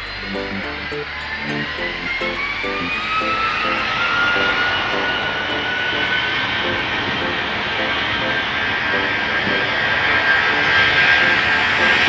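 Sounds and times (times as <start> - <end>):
jet engines roaring with whine: 0.0 - 12.0.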